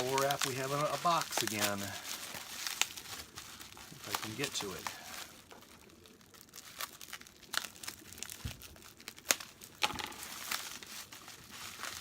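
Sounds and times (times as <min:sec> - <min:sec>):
bubble wrap crinkling: 0:00.0 - 0:12.0
bubble wrap snapping: 0:00.0 - 0:12.0.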